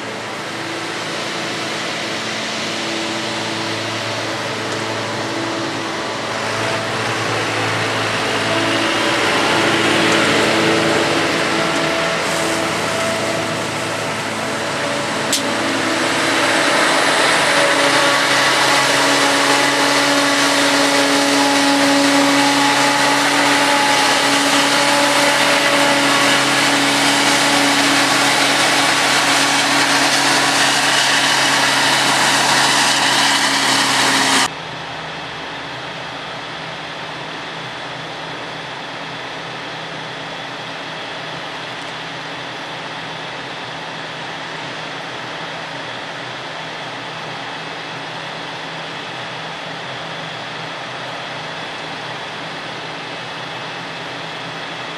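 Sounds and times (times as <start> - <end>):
tractor engine drone: 0.0 - 54.9.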